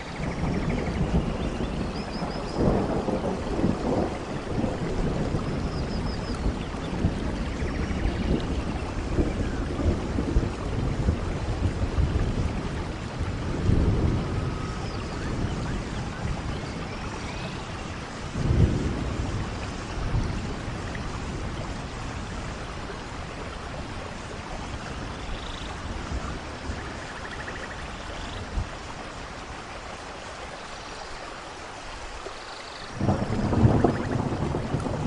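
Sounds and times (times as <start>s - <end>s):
rain falling on leaves: 0.0s - 35.0s.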